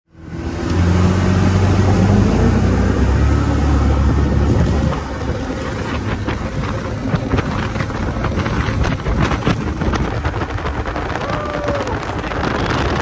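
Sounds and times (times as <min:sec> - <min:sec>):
low rumble: 0:00.1 - 0:13.0
wind buffeting microphone: 0:00.3 - 0:13.0.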